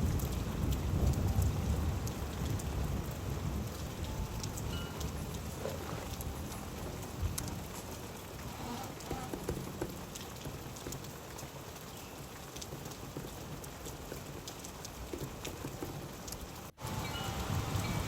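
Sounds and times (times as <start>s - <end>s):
steady rain falling: 0.0s - 18.0s
drops ticking on a surface: 0.1s - 16.7s.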